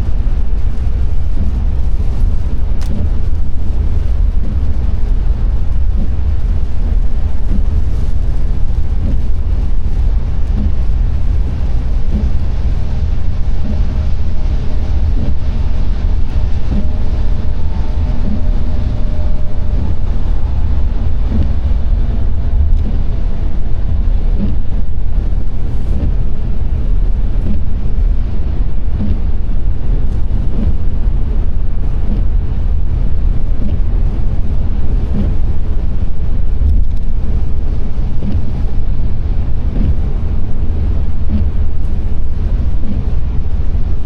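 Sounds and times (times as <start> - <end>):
road and wind noise: 0.0 - 44.0.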